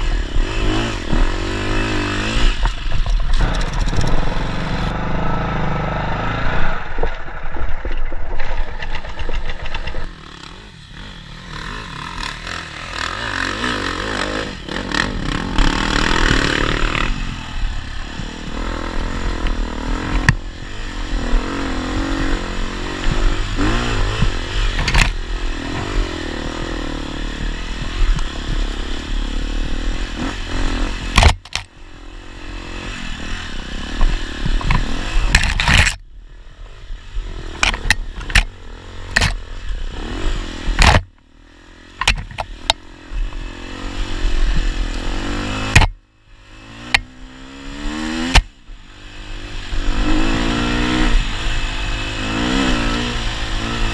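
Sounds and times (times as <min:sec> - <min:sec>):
dirt bike engine revving: 0:00.0 - 0:07.1, 0:08.6 - 0:36.0, 0:37.1 - 0:53.9.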